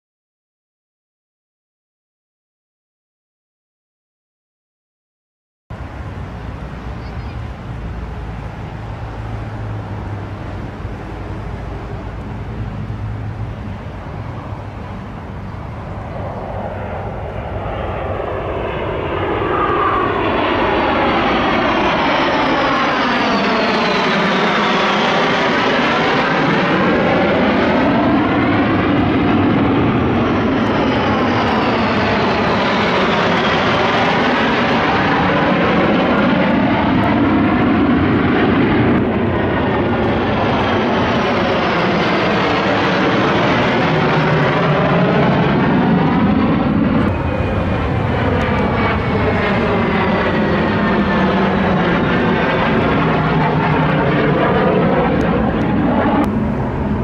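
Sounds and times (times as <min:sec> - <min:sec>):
fighter jets flying past: 0:05.7 - 0:57.0.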